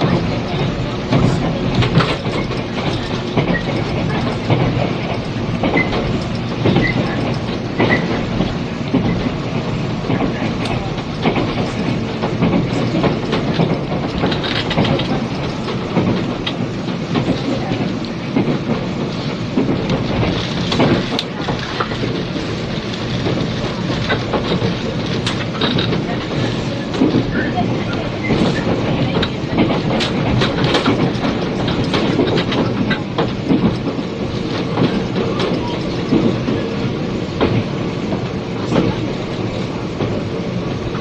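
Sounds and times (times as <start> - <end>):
train interior rumble: 0.0 - 41.0
wheels clicking over rail joints: 0.0 - 41.0.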